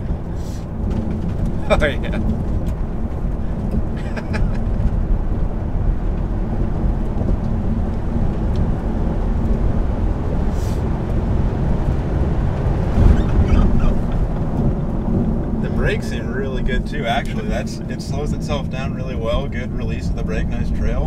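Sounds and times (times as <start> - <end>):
tyre and road noise in car cabin: 0.0 - 21.0.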